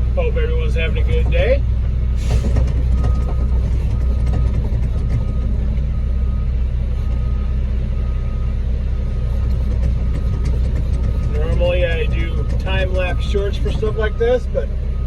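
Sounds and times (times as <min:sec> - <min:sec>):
diesel truck engine rumbling: 0:00.0 - 0:15.0
reversing alarm beeping: 0:02.9 - 0:15.0.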